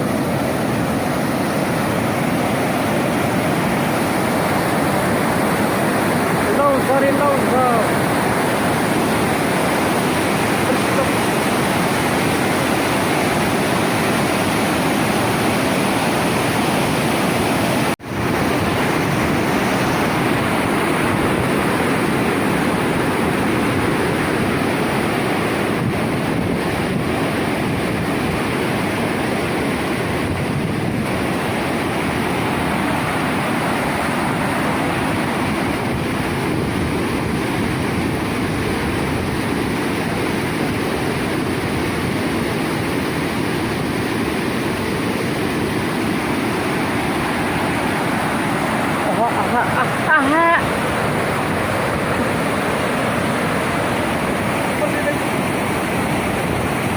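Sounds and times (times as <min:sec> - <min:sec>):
floodwater rushing: 0:00.0 - 0:56.9.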